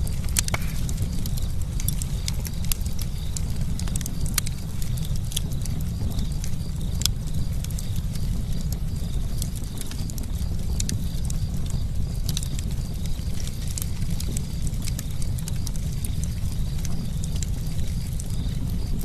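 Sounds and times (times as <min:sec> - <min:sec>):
low rumble of burning fire: 0:00.0 - 0:19.0
wood popping and snapping: 0:00.0 - 0:19.0.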